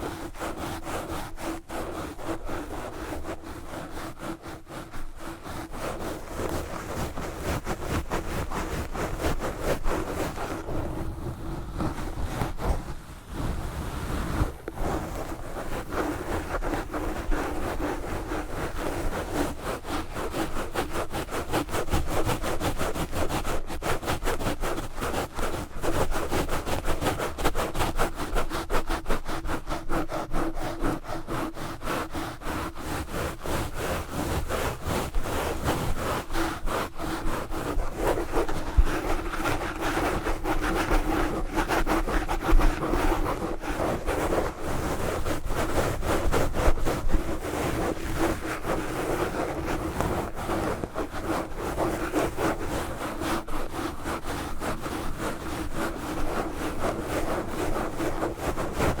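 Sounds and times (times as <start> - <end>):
wool gloves scratching microphone: 0.0 - 59.0.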